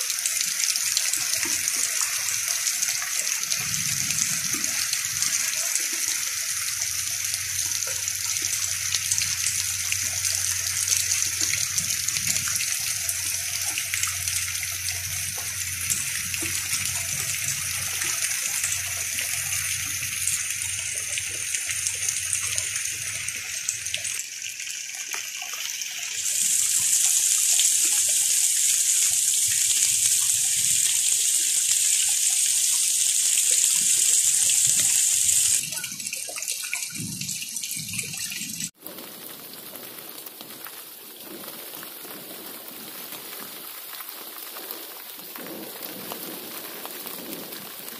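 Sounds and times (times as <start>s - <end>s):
heavy rain pouring: 0.0s - 24.6s, 26.1s - 36.3s, 36.9s - 47.9s.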